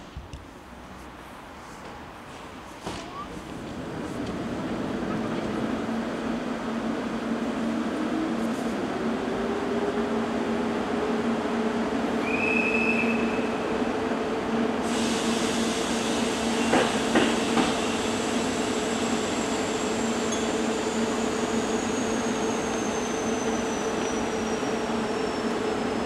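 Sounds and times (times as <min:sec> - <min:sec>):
train hum and rumble: 0:00.0 - 0:26.0.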